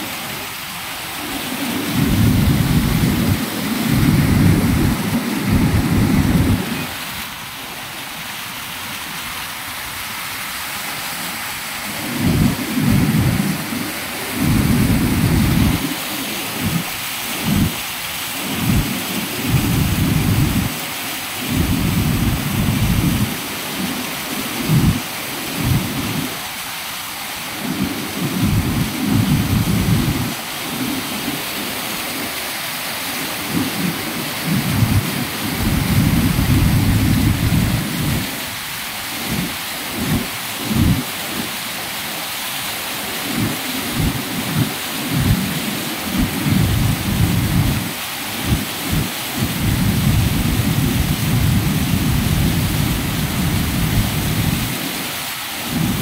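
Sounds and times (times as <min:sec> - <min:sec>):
fast-flowing water rushing: 0:00.0 - 0:56.0
low rumbling water surges: 0:00.0 - 0:56.0.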